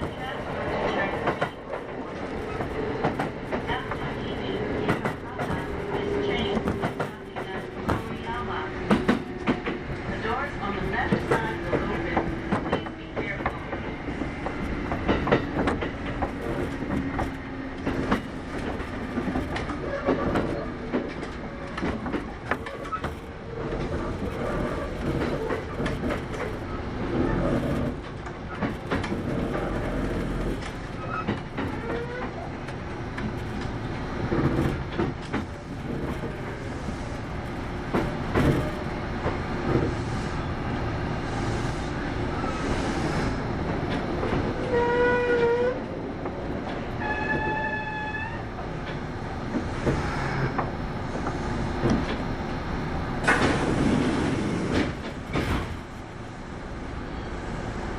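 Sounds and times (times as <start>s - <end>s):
rail joint clicks: 0.0s - 40.5s, 42.4s - 52.4s, 53.2s - 56.2s
train wheels and motors rumbling: 0.0s - 57.9s.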